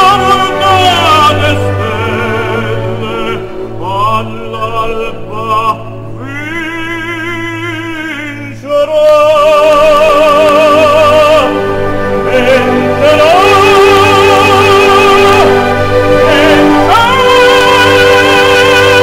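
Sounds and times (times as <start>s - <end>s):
operatic singing: 0.0s - 19.0s
orchestra playing: 0.0s - 19.0s.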